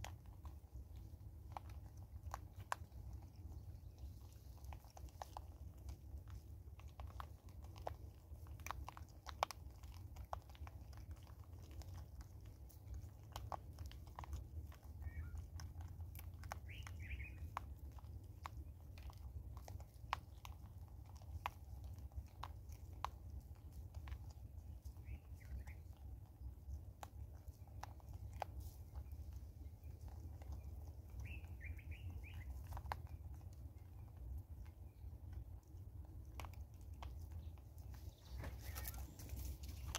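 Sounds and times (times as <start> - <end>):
monkeys chewing seeds: 0.0 - 39.9
seeds cracking: 0.0 - 39.9.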